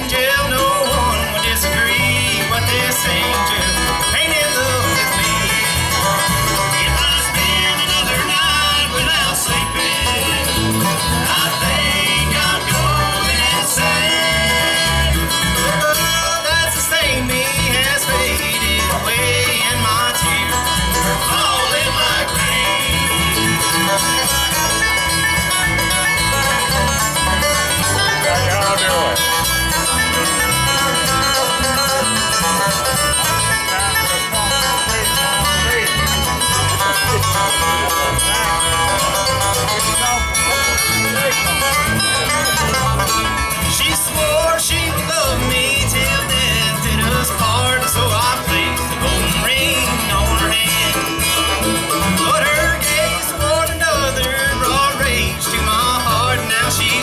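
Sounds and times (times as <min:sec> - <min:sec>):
bluegrass band playing: 0:00.0 - 0:57.0.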